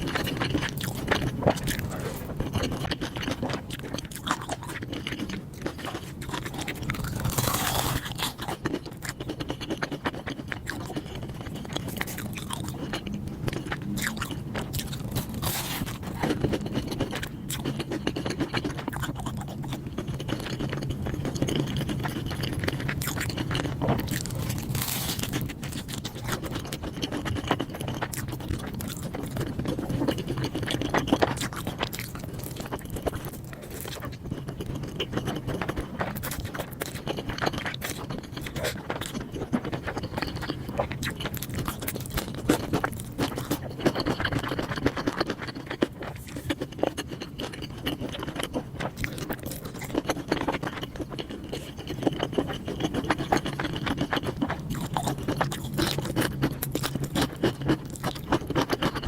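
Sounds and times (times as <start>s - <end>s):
close chewing with crunches: 0.0s - 59.0s.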